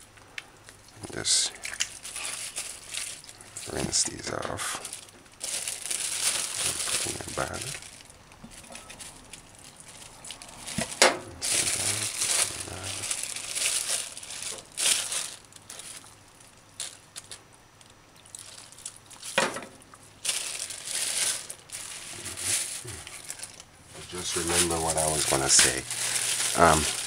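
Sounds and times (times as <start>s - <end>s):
plastic bag crinkling: 0.7s - 27.0s.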